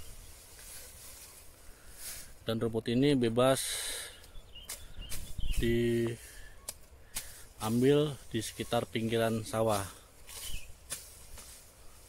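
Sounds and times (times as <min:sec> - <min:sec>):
grass being cut by hand: 0:00.0 - 0:02.4, 0:04.6 - 0:12.0.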